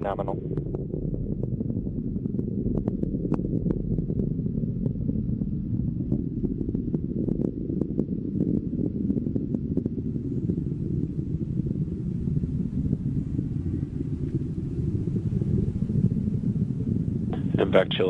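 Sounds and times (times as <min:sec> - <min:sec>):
rocket engine rumble: 0:00.0 - 0:18.0.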